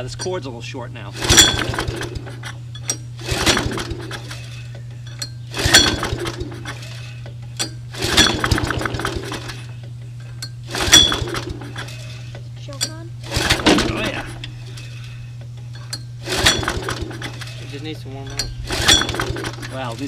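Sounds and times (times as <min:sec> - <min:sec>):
mower recoil starter pulls: 0:01.1 - 0:09.8, 0:10.4 - 0:20.0.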